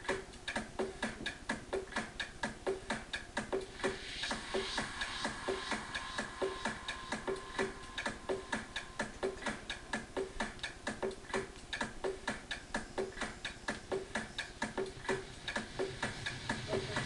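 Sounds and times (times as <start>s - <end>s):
electronic dance music ticking beat: 0.0s - 17.0s.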